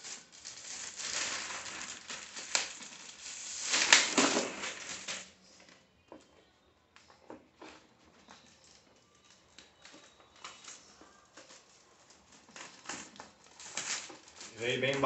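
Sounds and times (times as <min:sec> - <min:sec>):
plastic bag rustling and crinkling: 0:00.0 - 0:05.5, 0:07.6 - 0:15.0.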